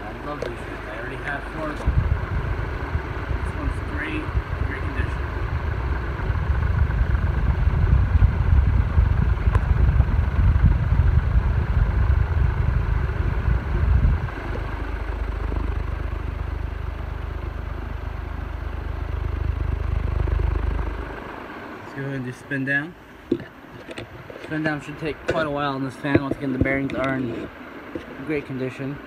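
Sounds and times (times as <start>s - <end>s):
ceiling fan buffeting microphone: 0.0s - 29.0s.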